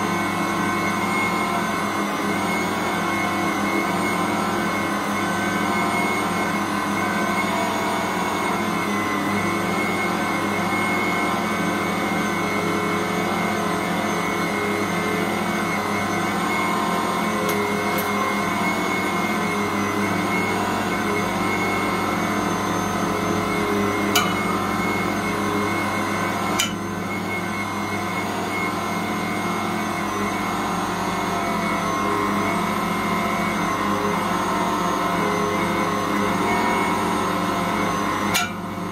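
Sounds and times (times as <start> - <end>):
stand mixer kneading dough: 0.0 - 38.9.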